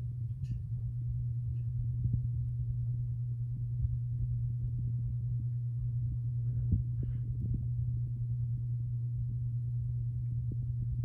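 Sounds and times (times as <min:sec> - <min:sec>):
ceiling fan motor hum: 0:00.0 - 0:11.0.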